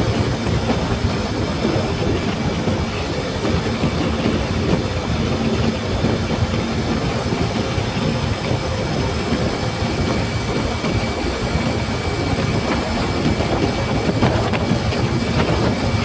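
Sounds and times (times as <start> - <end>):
motorcycle engine drone: 0.0 - 16.0
wind buffeting microphone: 0.0 - 16.0.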